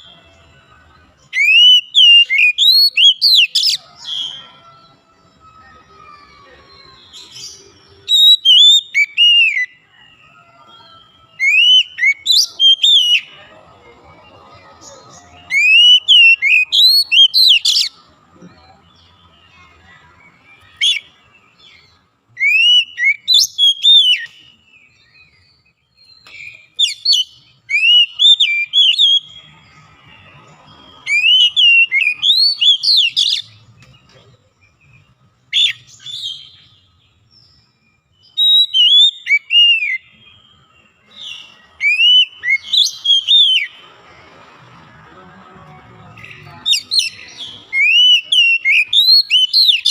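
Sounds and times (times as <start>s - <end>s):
bird singing whistled notes: 0.0s - 13.4s, 15.0s - 18.1s, 18.8s - 43.9s, 46.1s - 49.9s.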